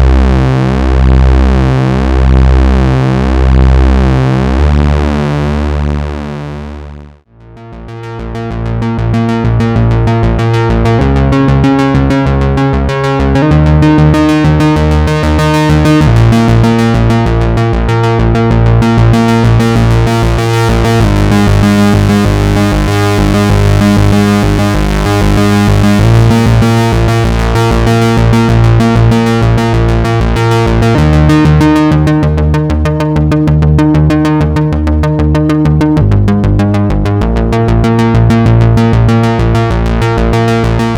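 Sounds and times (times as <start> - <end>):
synthesizer bass pattern: 0.0 - 40.9.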